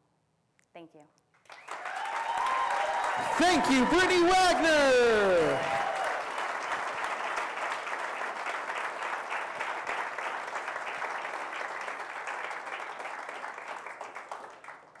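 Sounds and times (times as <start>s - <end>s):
audience applauding: 1.4s - 15.0s.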